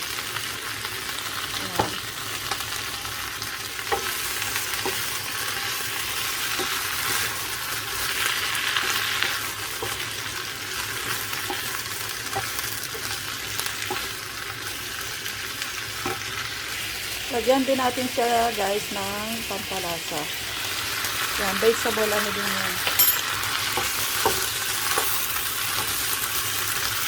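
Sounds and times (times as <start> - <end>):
cabbage sizzling in hot oil: 0.0 - 27.0.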